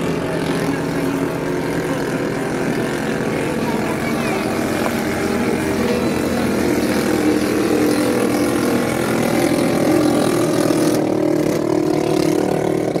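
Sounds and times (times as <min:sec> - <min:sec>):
boat engines running flat out: 0:00.0 - 0:13.0.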